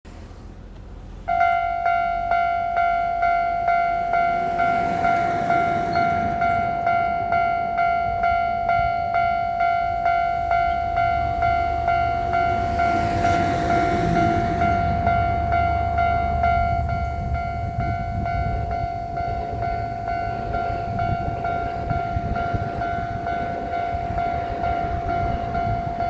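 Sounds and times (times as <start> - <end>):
level crossing warning bell: 1.2 - 26.0.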